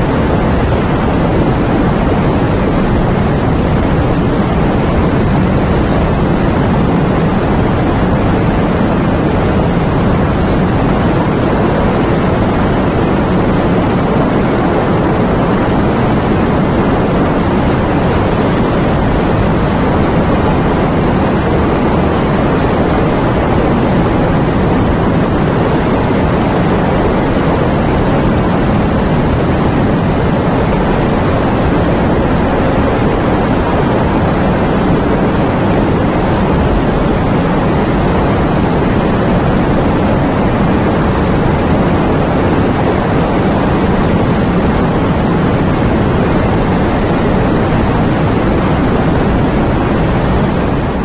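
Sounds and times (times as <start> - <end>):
wind: 0.0 - 51.0.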